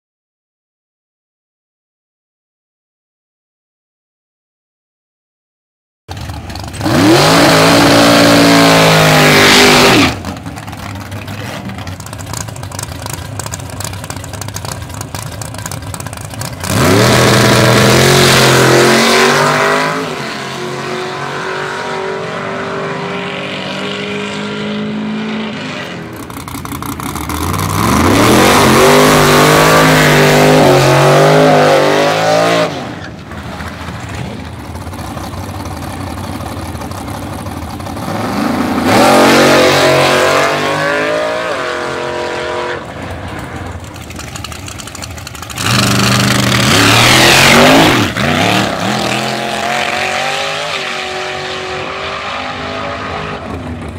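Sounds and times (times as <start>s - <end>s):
race car engines at full throttle: 6.1s - 53.9s.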